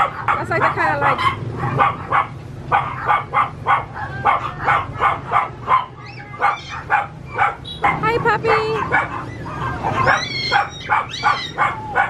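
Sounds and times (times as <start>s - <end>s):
puppies yapping: 0.0s - 12.0s.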